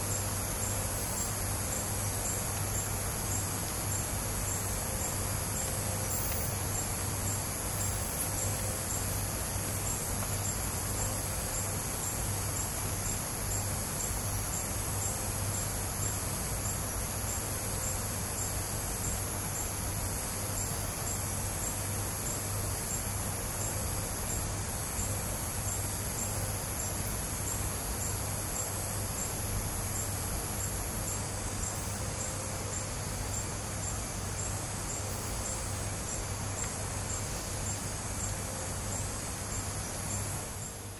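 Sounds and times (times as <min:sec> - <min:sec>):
crickets trilling: 0:00.0 - 0:40.9
low steady hum: 0:00.0 - 0:40.9.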